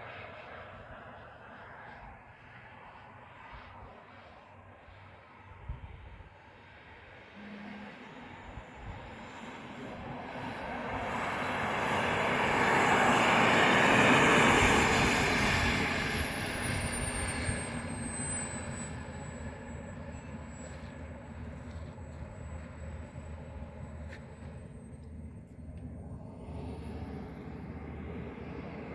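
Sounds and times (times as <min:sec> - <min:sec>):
jet engine passing by: 0:00.0 - 0:28.9.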